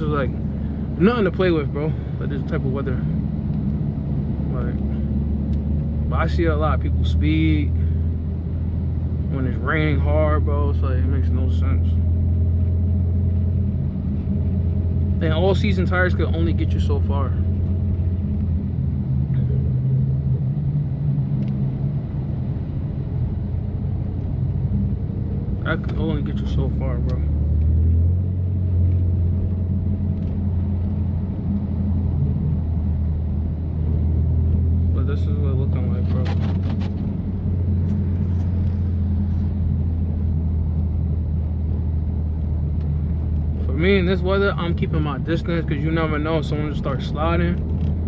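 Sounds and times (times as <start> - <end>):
car engine and exhaust drone: 0.0 - 48.0
tyre and road noise: 0.0 - 48.0.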